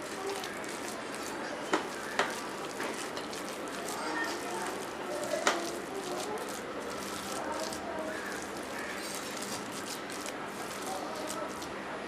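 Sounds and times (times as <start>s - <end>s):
hands mixing minced meat: 0.0s - 11.8s.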